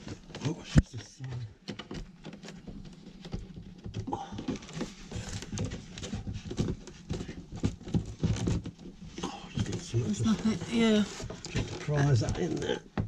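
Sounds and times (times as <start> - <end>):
wooden board knocking and rubbing: 0.0 - 13.0.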